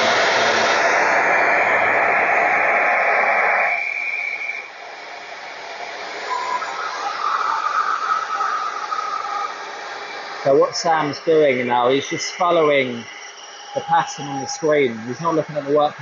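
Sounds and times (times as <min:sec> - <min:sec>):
router and vacuum whine: 0:00.0 - 0:16.0.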